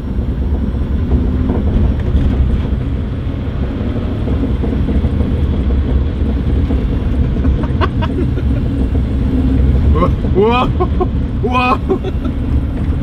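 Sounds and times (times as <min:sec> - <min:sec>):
car engine running: 0:00.0 - 0:13.0
road and tyre rumble: 0:00.0 - 0:13.0.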